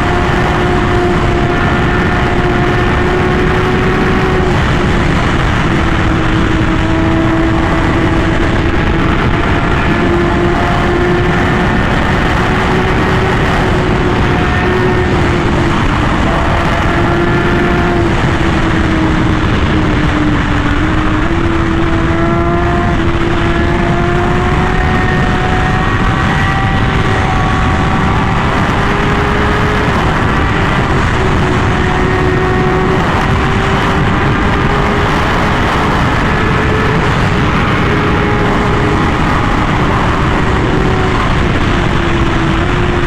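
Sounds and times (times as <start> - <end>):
motorcycle engine at high revs: 0.0 - 43.0
wind noise: 0.0 - 43.0.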